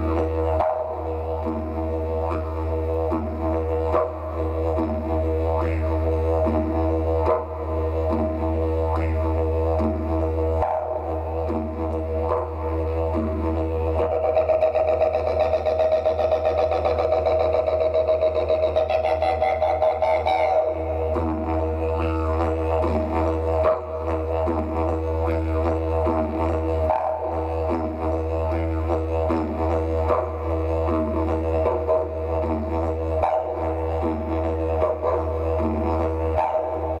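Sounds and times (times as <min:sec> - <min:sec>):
didgeridoo drone: 0:00.0 - 0:37.0.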